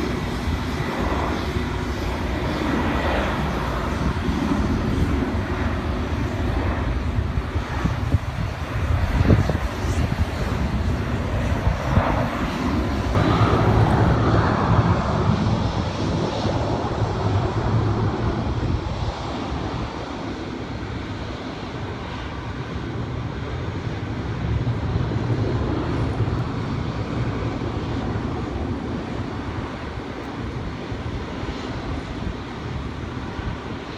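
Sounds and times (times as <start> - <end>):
jet airliner engines rumbling: 0.0 - 33.9
wind buffeting microphone: 0.0 - 33.9.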